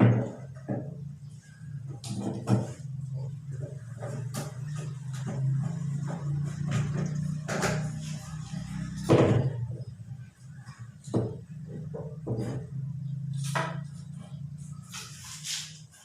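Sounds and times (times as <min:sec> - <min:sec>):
pipes knocking and clunking: 0:00.0 - 0:10.0, 0:10.8 - 0:14.5.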